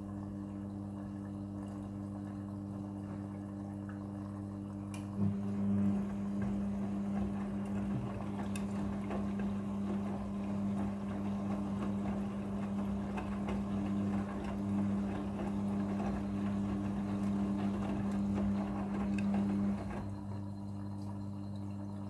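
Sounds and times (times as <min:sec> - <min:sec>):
washing machine motor hum: 0:00.0 - 0:22.0
wet laundry tumbling: 0:01.3 - 0:22.0.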